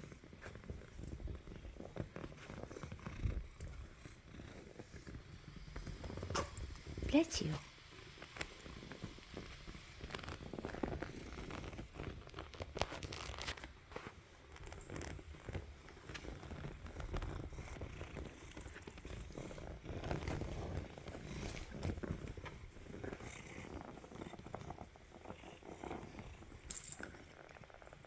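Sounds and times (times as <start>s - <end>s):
cat purring: 0.0s - 28.0s.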